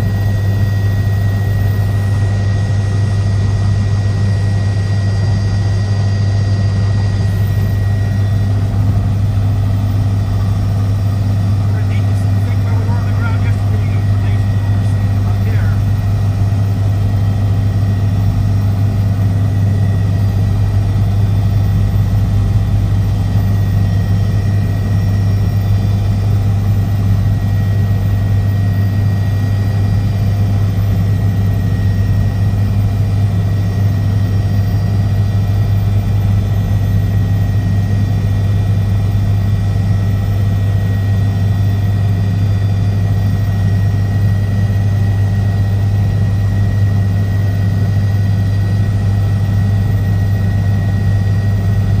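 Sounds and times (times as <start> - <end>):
helicopter engine and rotors: 0.0 - 52.0.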